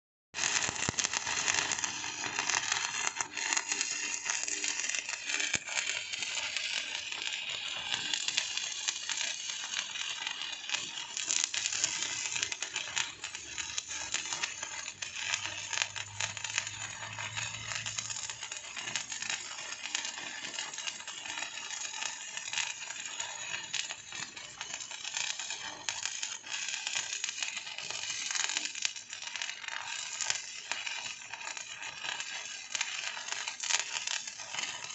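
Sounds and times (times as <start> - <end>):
electric arc welding crackle: 0.4 - 34.9.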